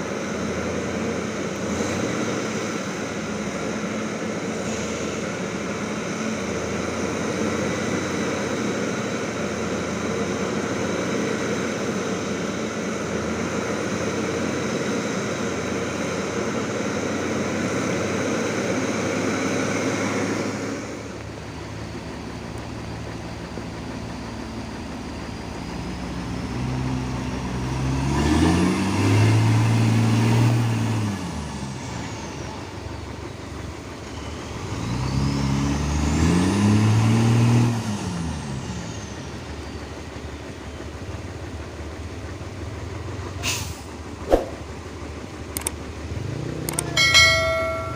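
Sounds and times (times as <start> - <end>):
truck engine revving: 0.0 - 20.9, 25.7 - 32.8, 34.2 - 39.6, 42.8 - 47.9
truck engine running: 0.0 - 28.2, 28.9 - 47.9.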